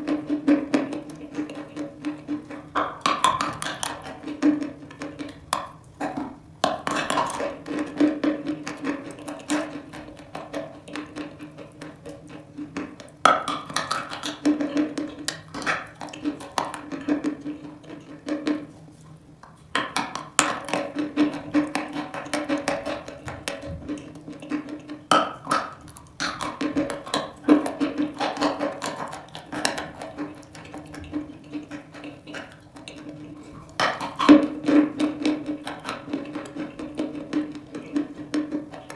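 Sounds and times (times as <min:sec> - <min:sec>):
gritty chewing: 0:00.4 - 0:38.9.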